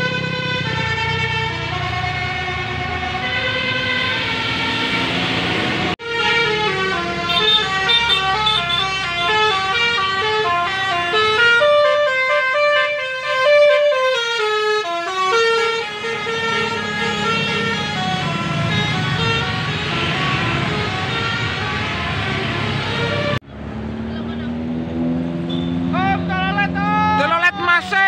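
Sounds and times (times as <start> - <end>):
bus horn playing melody: 0.0 - 23.4
engine and road noise: 0.0 - 28.0.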